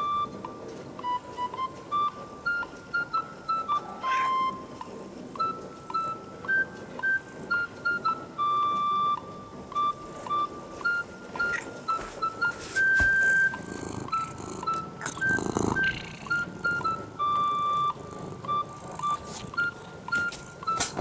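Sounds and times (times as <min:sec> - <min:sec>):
cheerful beeping melody: 0:00.0 - 0:21.0.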